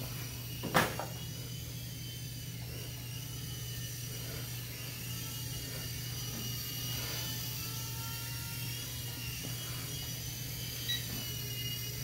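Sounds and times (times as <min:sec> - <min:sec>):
toy helicopter whirring: 0:00.0 - 0:12.0.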